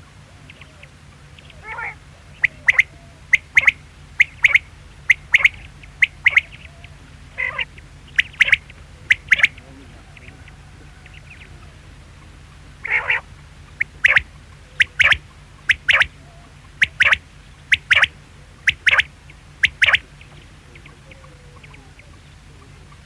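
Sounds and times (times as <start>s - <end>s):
low steady hum: 0.0s - 23.0s
quail calling: 0.0s - 23.0s.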